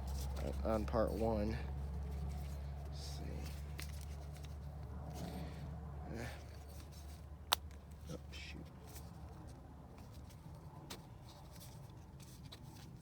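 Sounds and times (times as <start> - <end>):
handling and rustling noises: 0.0 - 5.6, 6.2 - 13.0.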